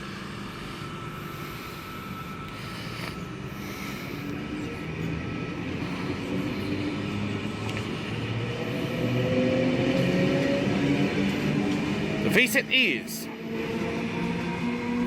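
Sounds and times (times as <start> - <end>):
electric train motors humming: 0.0 - 15.0.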